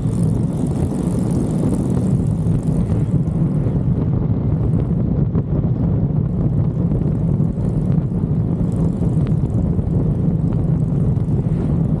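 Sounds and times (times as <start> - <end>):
motorcycle engine drone: 0.0 - 12.0
wind rush: 0.0 - 12.0.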